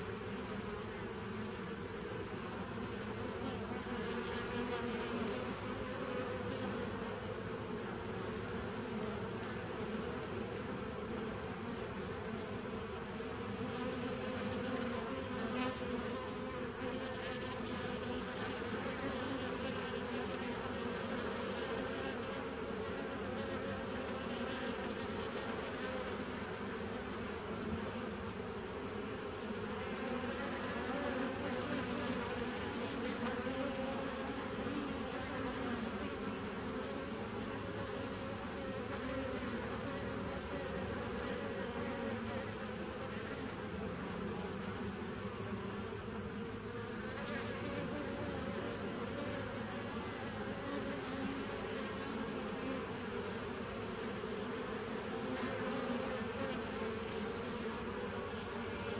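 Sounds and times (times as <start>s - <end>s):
honeybees buzzing: 0.0s - 58.9s.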